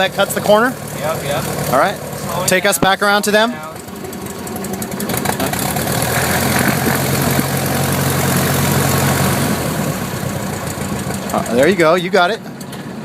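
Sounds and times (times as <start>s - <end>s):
small plane engine and propeller: 0.0s - 13.0s.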